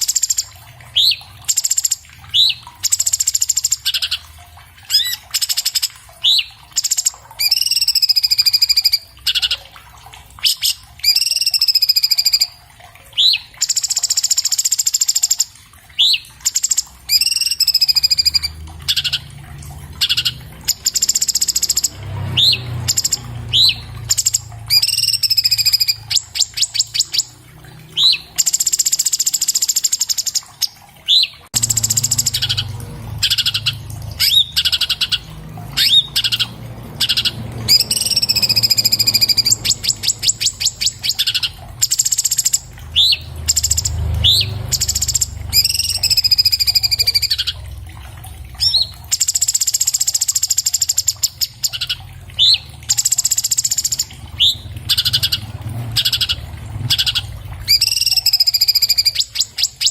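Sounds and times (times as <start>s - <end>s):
bird singing: 0.0s - 4.2s, 4.9s - 9.6s, 10.4s - 12.6s, 13.2s - 19.4s, 20.0s - 47.6s, 48.6s - 59.9s.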